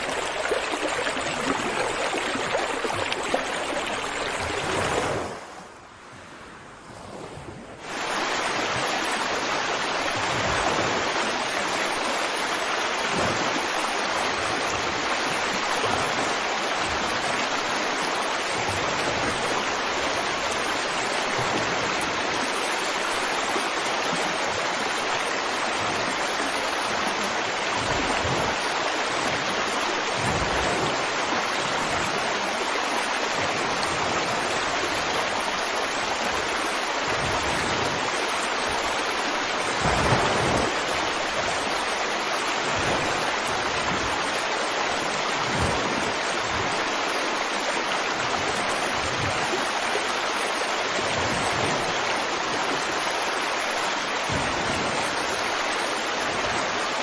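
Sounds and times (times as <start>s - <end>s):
stream water running: 0.0s - 5.6s, 7.8s - 57.0s.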